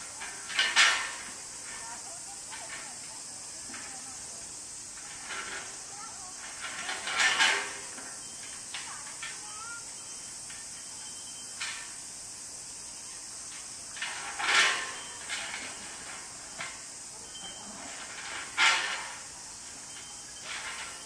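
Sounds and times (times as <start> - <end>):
tyre chain scraping rattle: 0.0 - 12.6, 13.4 - 21.0.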